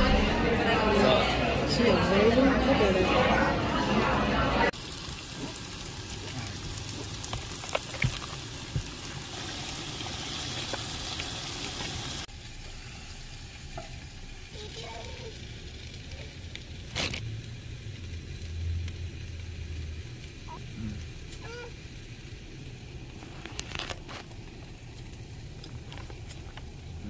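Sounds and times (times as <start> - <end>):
vegetables sizzling in a pan: 4.7 - 27.0.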